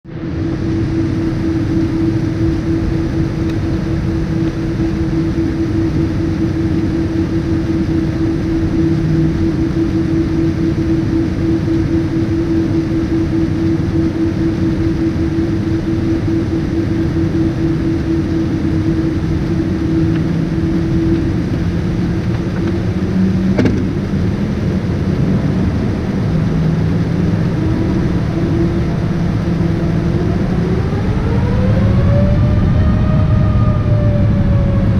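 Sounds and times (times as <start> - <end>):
hum: 0.0 - 34.9
jet engines idling: 0.1 - 34.9.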